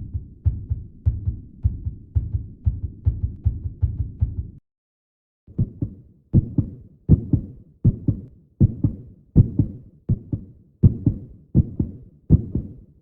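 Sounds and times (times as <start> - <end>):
heartbeat lub-dub: 0.0 - 4.6, 5.5 - 13.0.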